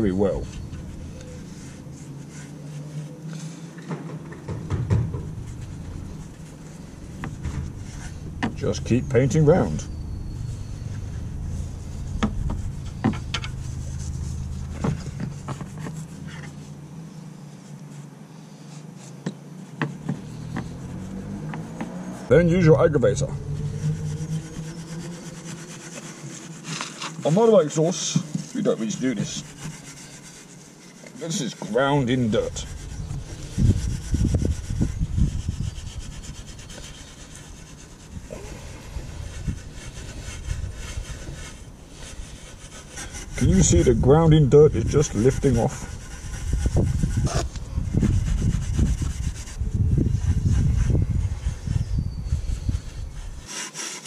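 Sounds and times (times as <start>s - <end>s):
paintbrush scrubbing metal: 0.0s - 16.8s, 17.6s - 54.0s
low steady rumble: 0.0s - 31.0s, 31.6s - 53.5s.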